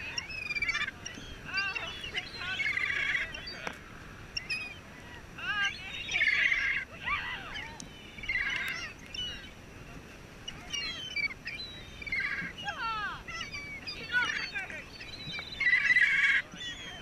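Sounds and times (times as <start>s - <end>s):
gulls calling: 0.0s - 17.0s.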